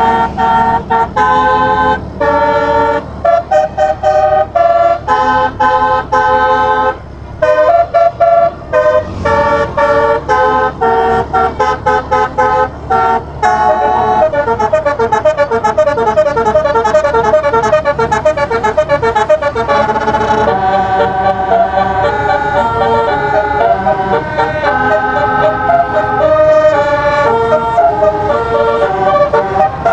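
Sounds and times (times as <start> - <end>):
multi-trumpet air horn melody: 0.0 - 29.9.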